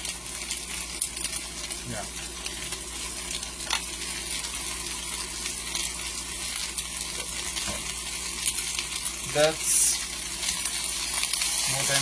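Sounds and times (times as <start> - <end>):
oil popping and crackling: 0.0 - 12.0
potatoes frying in oil: 0.0 - 12.0.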